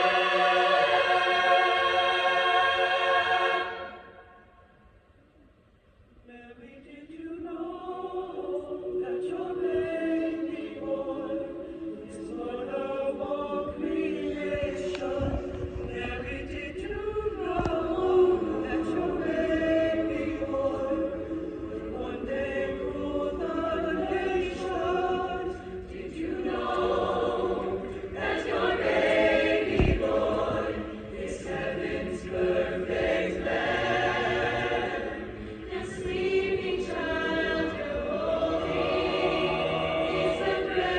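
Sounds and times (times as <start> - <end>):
choir singing: 0.0 - 4.6, 6.3 - 40.9.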